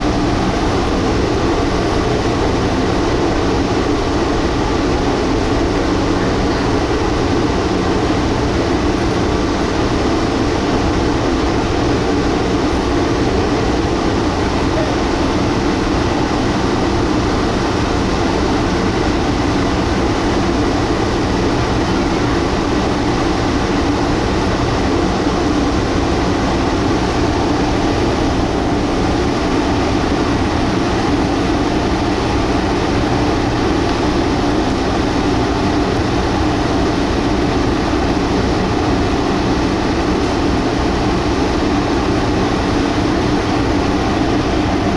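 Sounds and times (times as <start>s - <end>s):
boat engine droning: 0.0s - 44.9s
hull and water noise: 0.0s - 44.9s.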